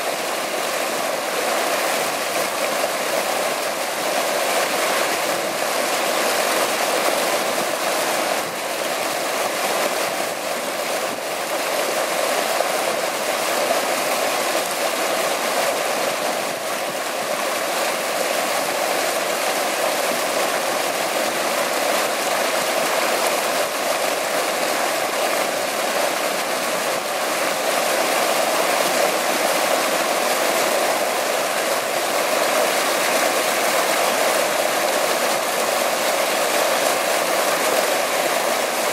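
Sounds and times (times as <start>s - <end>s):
water splashing into fountain pool: 0.0s - 38.9s.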